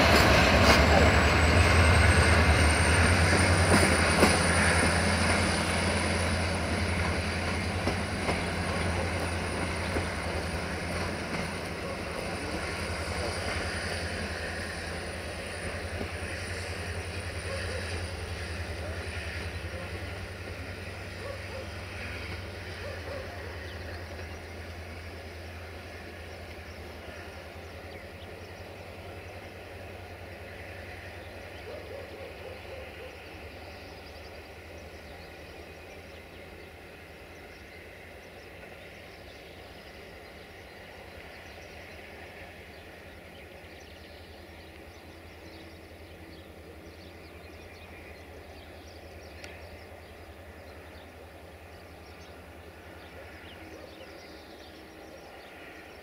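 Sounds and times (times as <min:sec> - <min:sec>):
diesel train engine drone: 0:00.0 - 0:56.0.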